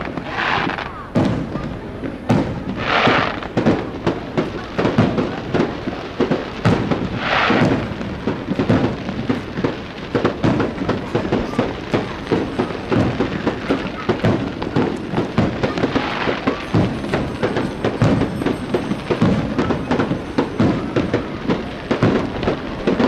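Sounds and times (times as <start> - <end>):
crackling firework burst: 0.0 - 23.0
fireworks booms and reports: 0.0 - 23.0.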